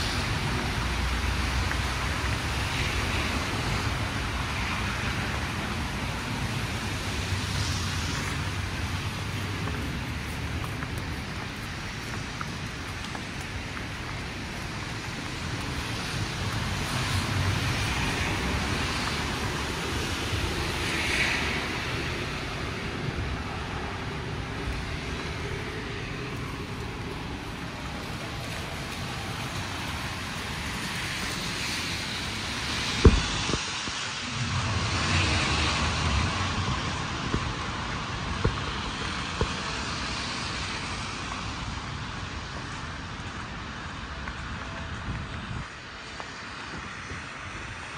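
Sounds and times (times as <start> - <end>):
cars passing on street: 0.0 - 47.9.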